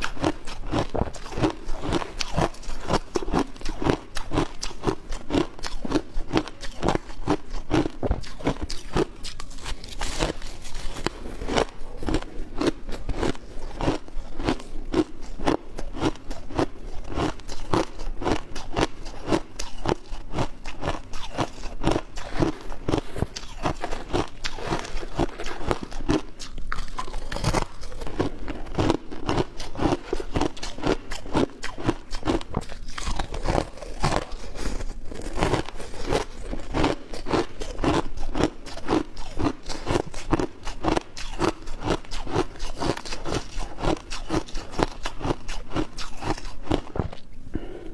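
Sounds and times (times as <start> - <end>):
ice crunching between teeth: 0.0 - 47.2.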